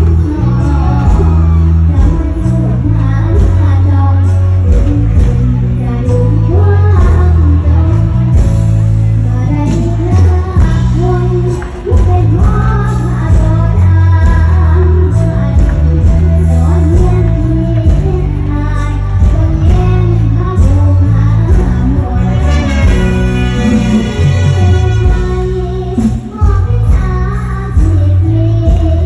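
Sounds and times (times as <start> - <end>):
band with heavy bass: 0.0 - 29.0
person singing: 0.0 - 29.0.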